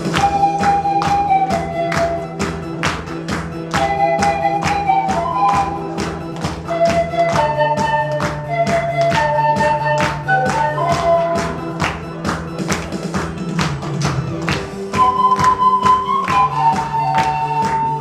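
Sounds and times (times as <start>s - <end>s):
pan flute ensemble melody: 0.0s - 18.0s
tapping percussion beat: 0.0s - 18.0s.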